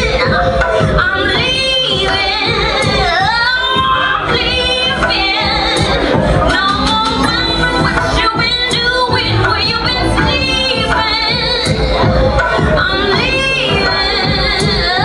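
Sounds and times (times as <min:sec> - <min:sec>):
backing track with a beat: 0:00.0 - 0:15.0
woman singing: 0:00.0 - 0:15.0.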